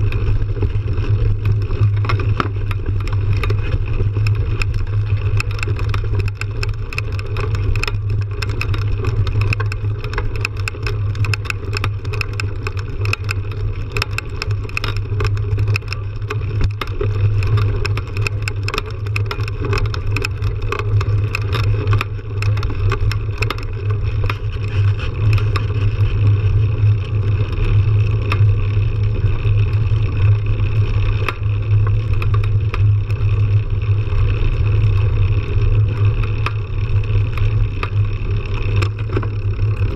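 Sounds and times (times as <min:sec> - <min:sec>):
bike rattling over bumps: 0:00.0 - 0:39.9.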